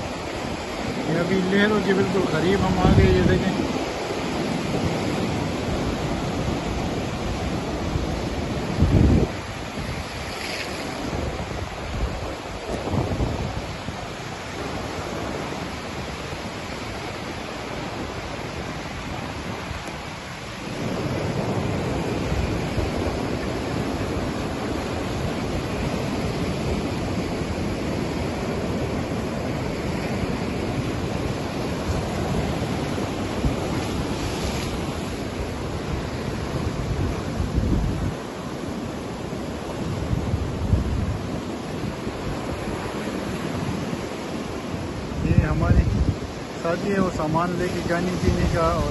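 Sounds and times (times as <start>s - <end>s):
surf washing over rocks: 0.0s - 48.9s
wind buffeting microphone: 0.0s - 48.9s.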